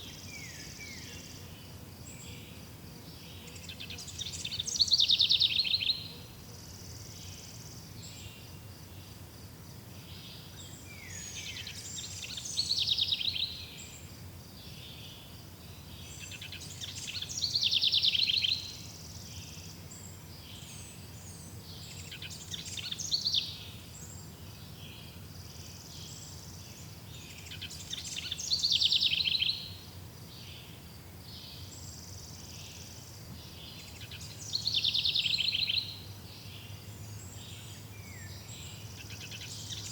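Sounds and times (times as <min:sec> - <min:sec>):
songbird trilling song: 0:00.0 - 0:09.3, 0:09.9 - 0:39.9.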